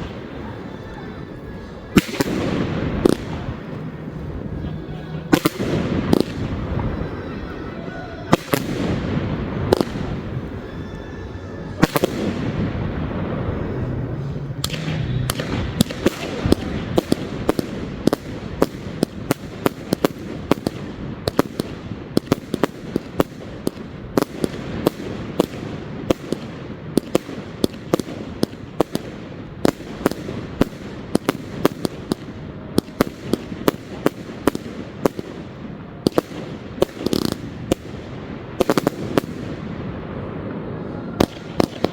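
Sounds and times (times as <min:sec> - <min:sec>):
fireworks banging: 0:00.0 - 0:41.9.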